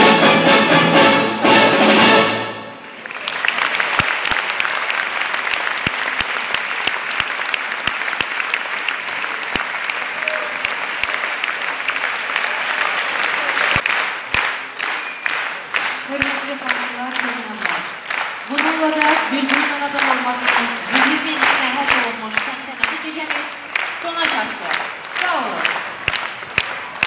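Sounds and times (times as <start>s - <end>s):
audience applauding: 2.8s - 27.0s
individual sharp claps: 2.9s - 27.0s.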